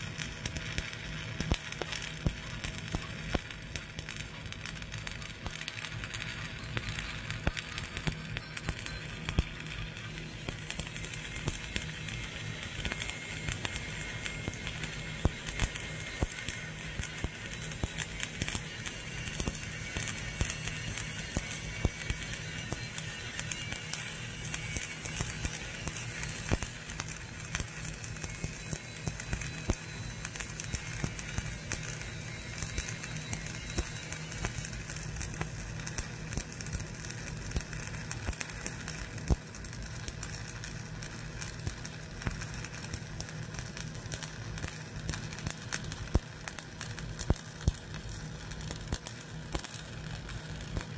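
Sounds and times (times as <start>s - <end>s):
welding arc crackling and popping: 0.0s - 50.9s.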